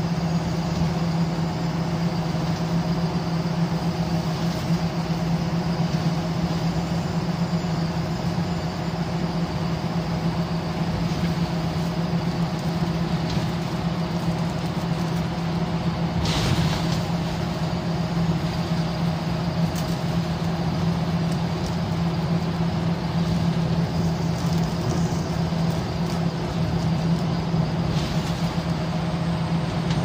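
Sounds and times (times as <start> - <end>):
bus diesel engine hum: 0.0 - 30.0.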